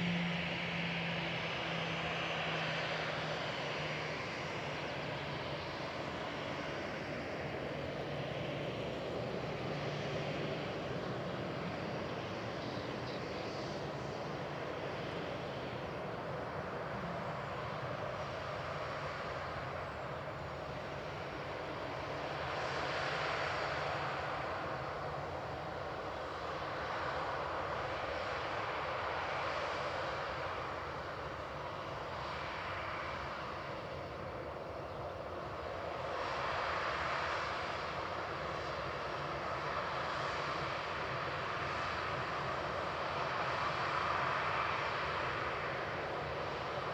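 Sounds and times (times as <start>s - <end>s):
jet engines roaring: 0.0s - 46.9s.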